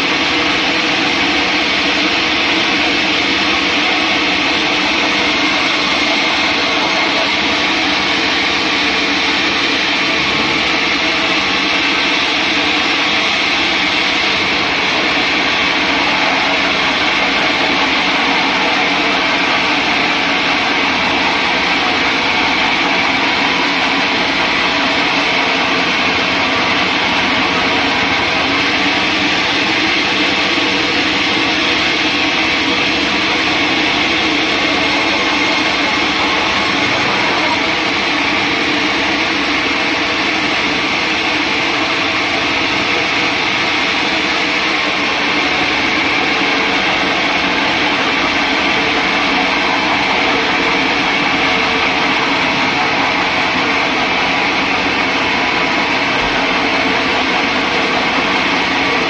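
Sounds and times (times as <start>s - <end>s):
sawmill saw running: 0.0s - 59.0s.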